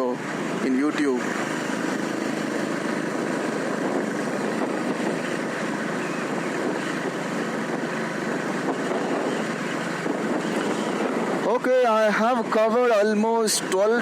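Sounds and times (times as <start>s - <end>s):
wind rushing over microphone: 0.0s - 14.0s
motorcycle engine running: 0.1s - 11.5s.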